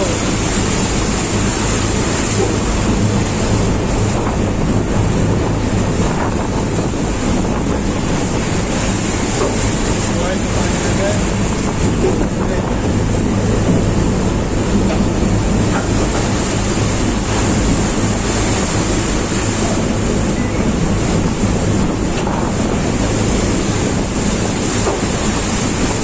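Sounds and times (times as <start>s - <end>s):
steady low drone: 0.0s - 26.0s
storm seas breaking over deck: 0.0s - 26.0s
wind buffeting microphone: 0.0s - 26.0s.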